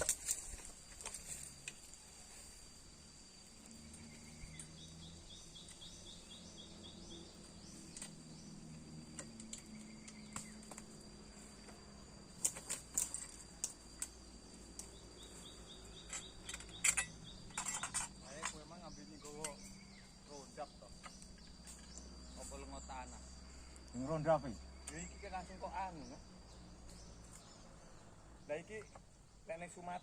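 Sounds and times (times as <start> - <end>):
high insect drone: 0.0 - 30.0
bird chirping: 3.2 - 30.0.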